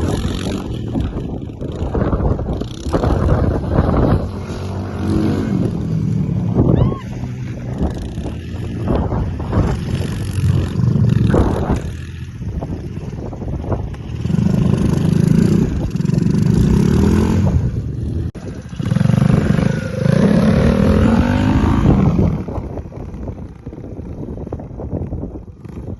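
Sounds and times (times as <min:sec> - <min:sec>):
dirt bike engine accelerating: 0:00.0 - 0:25.9.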